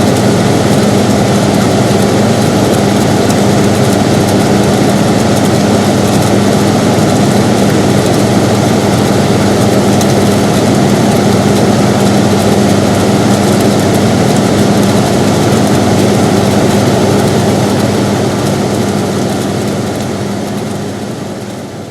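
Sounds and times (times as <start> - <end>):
air conditioner humming: 0.0 - 21.9.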